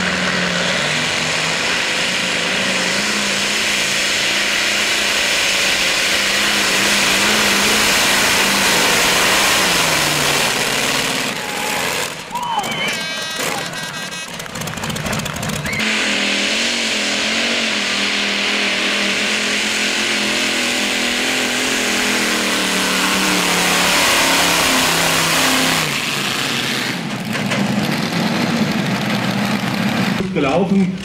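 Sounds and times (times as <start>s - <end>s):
tractor engine running flat out: 0.0s - 31.0s.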